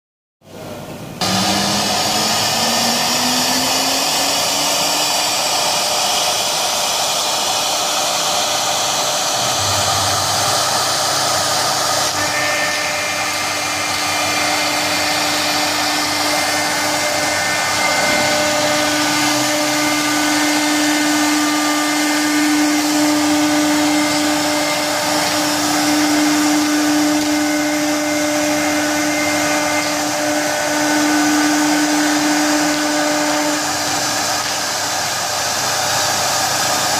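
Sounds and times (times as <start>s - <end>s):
router spindle whine: 1.2s - 36.9s.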